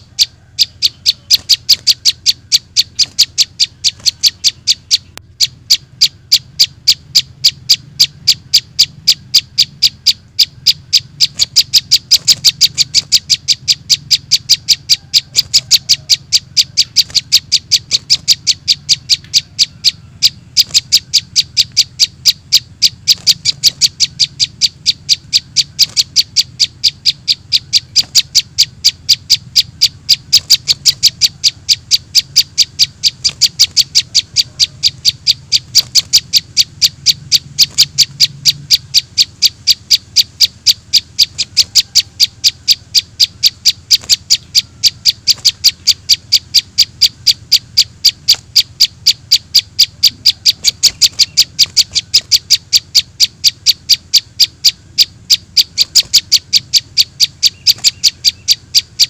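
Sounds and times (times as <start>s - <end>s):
high bird chirps: 0.0s - 59.0s.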